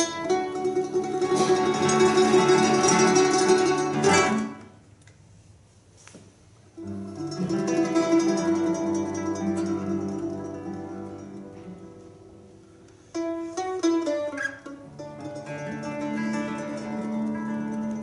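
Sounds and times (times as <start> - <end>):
mandolin: 0.0 - 5.0, 6.7 - 18.0
classical guitar: 0.0 - 5.6, 6.7 - 18.0.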